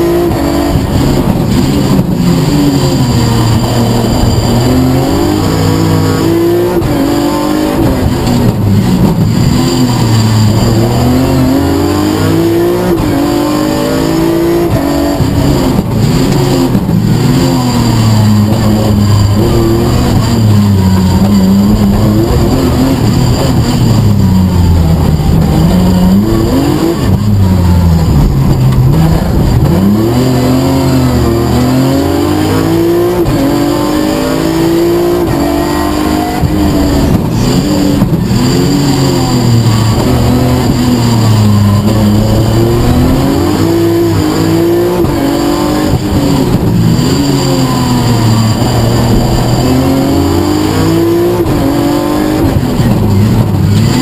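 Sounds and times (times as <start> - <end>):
car engine revving: 0.0 - 54.0
road noise rushing: 0.0 - 54.0.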